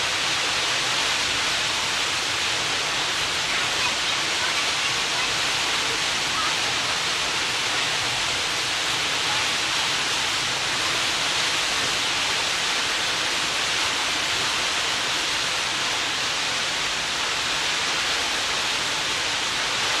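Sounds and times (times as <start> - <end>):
choppy sea water rushing: 0.0 - 20.0.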